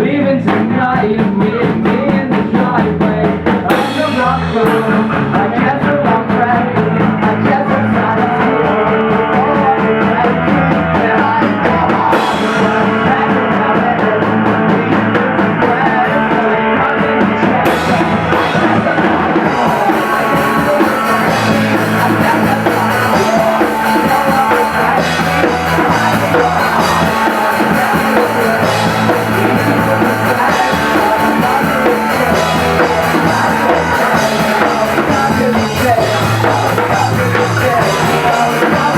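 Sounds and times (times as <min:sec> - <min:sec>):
drum kit: 0:00.0 - 0:38.9
guitars: 0:00.0 - 0:38.9
person singing: 0:00.0 - 0:38.9.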